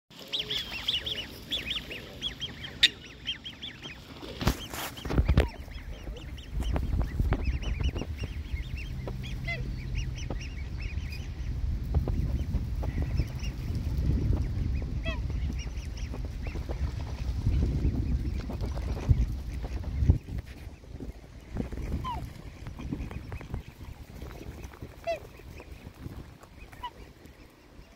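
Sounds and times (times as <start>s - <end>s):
waterbirds peeping: 0.1s - 27.9s
low rumbling noise: 5.0s - 27.9s.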